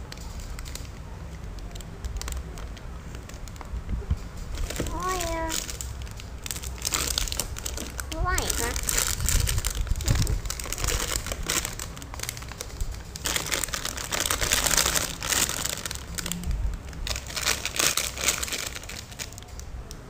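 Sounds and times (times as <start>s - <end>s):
plastic packaging crinkling: 0.0s - 19.8s.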